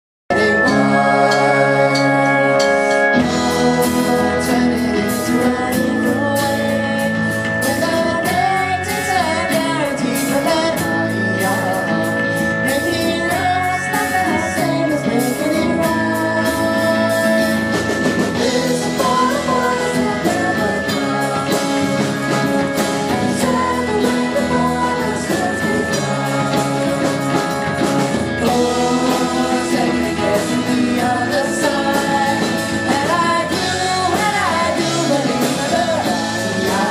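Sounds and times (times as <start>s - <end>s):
live band playing: 0.3s - 36.9s
woman singing: 0.3s - 36.9s.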